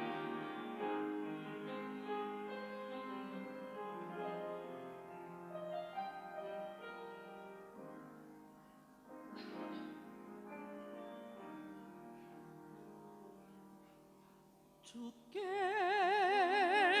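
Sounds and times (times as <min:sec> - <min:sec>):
soft keyboard hymn music: 0:00.0 - 0:17.0.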